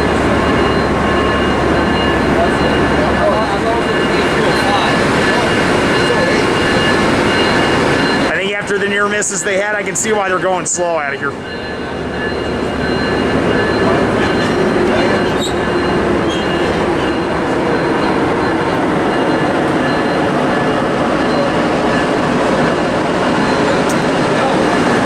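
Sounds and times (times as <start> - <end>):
high wheel squeal: 0.0 - 8.4, 9.4 - 25.0
train wheels rumbling on rails: 0.0 - 25.0.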